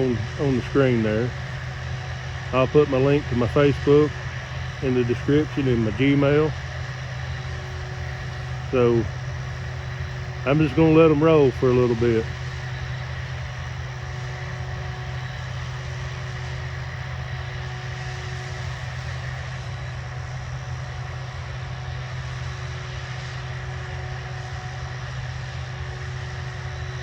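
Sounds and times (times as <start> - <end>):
faint steady whine: 0.0 - 27.0
harvest machinery engine drone: 0.0 - 27.0.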